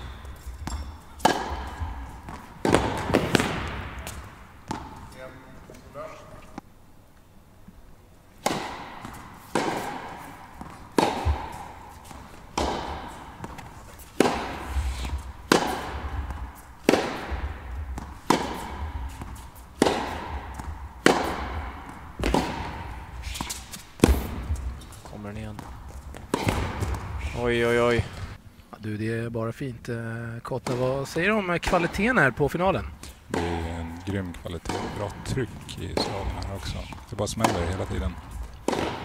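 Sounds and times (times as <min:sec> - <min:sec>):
rackets striking tennis ball: 0:00.0 - 0:05.1, 0:08.4 - 0:28.4, 0:30.6 - 0:39.0
tennis ball bouncing: 0:00.0 - 0:05.1, 0:08.4 - 0:28.4, 0:31.7 - 0:39.0.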